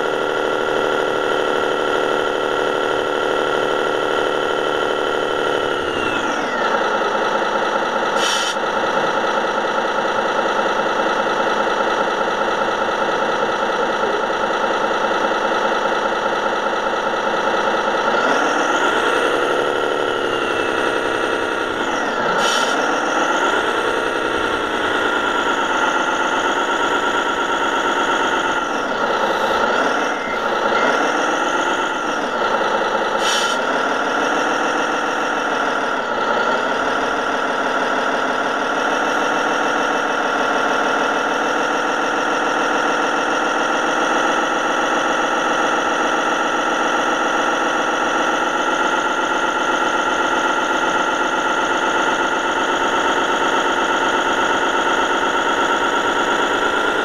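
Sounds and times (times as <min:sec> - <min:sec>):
model truck engine: 0:00.0 - 0:57.0.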